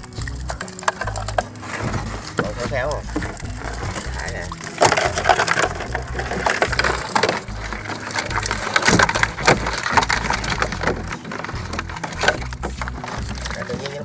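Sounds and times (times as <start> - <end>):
crabs clattering: 0.0 - 14.0
wire crab trap rattling: 0.0 - 14.0.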